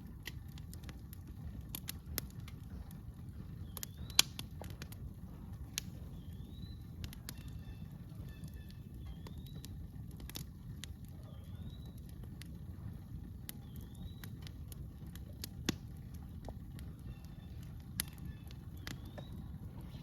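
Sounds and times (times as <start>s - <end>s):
campfire crackling and popping: 0.0s - 20.0s
low rumble: 0.0s - 20.0s.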